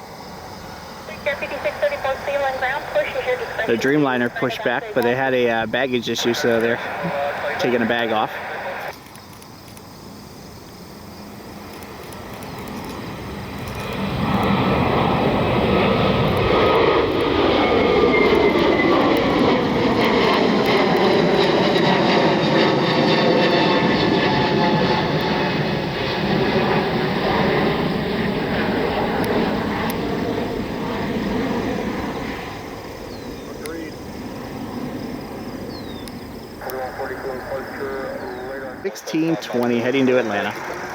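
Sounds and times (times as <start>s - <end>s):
jet airliner engines at takeoff: 0.0s - 40.9s.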